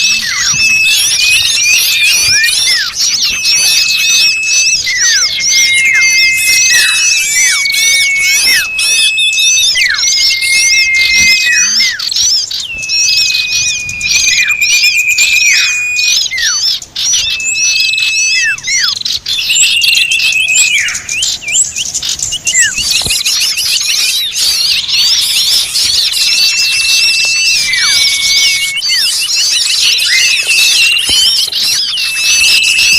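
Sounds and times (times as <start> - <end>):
high whistles with falling sweep: 0.0 - 32.9
small birds chirping: 0.0 - 32.9.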